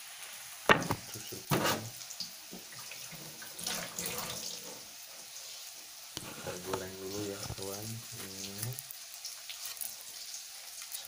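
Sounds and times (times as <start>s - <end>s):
noodles sizzling in oil: 0.0s - 11.0s.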